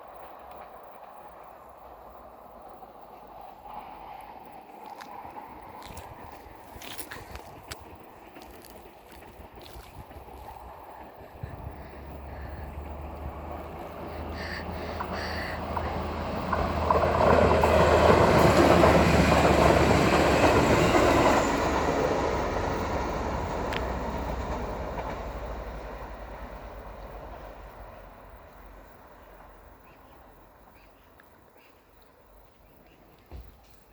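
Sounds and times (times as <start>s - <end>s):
train passing: 0.0s - 32.8s.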